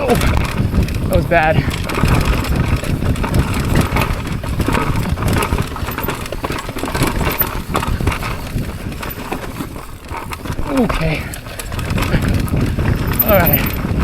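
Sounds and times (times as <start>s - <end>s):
mountain bike rattling: 0.0s - 14.0s
wind buffeting microphone: 0.0s - 14.0s.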